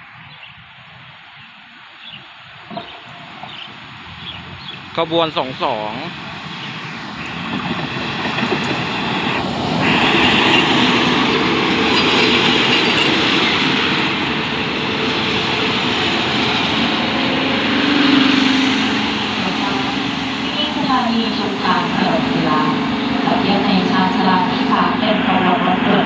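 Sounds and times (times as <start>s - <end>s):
train wheels rumbling on rails: 2.6s - 26.0s.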